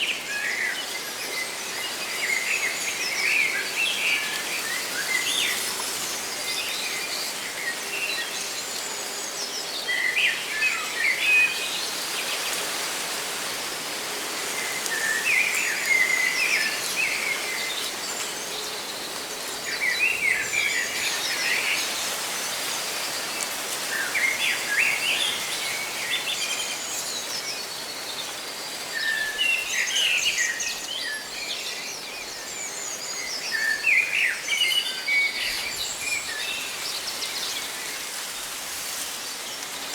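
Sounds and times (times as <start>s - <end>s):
leaves rustling in wind: 0.0s - 39.9s.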